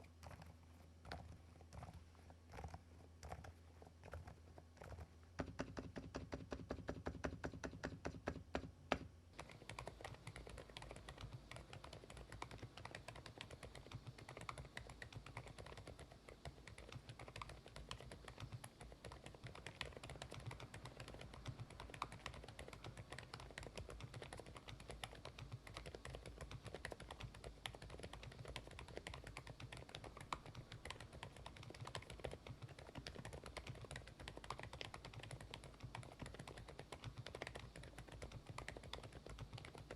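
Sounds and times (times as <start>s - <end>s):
soft keyboard typing: 0.0s - 39.9s.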